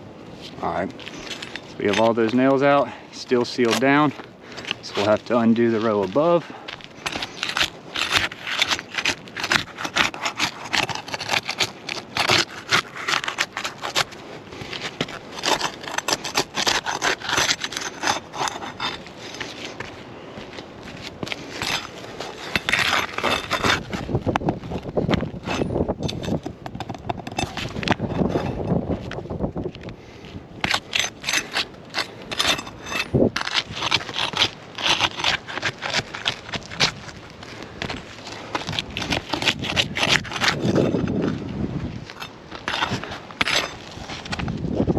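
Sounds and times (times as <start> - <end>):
tool scraping under shingles: 0.3 - 44.9
shingles grinding together: 1.0 - 19.8, 21.0 - 28.8, 30.6 - 41.4, 42.0 - 44.9.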